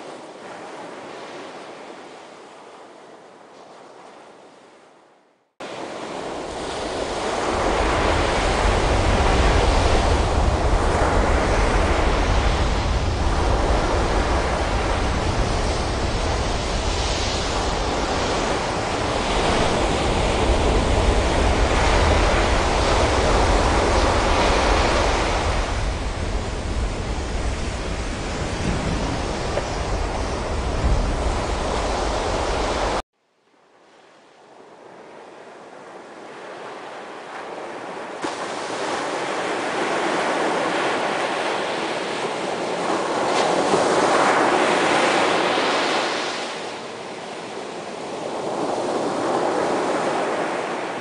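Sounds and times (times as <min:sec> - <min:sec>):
ocean waves breaking: 0:05.6 - 0:33.0, 0:34.8 - 0:51.0.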